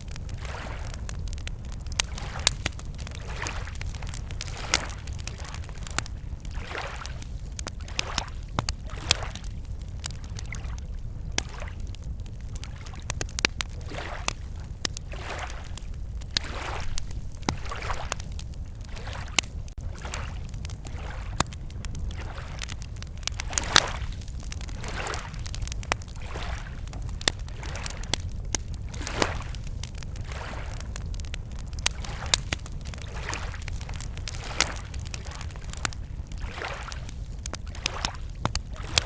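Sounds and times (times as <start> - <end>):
campfire crackling: 0.0 - 39.0
lake waves lapping on shore: 0.3 - 30.9, 31.5 - 39.0.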